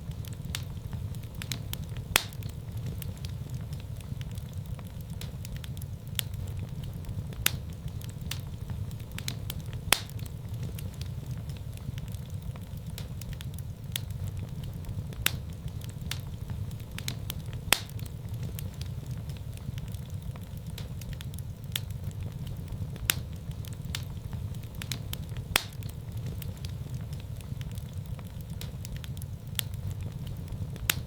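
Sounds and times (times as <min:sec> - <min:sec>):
fire crackles and pops: 0:00.0 - 0:31.0
fire rumbling in fireplace: 0:00.0 - 0:31.0.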